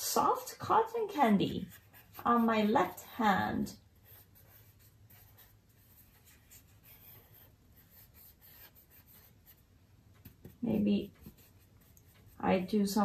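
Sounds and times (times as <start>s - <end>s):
marker scratching on paper: 0.3s - 3.4s, 4.0s - 9.6s, 10.2s - 12.8s.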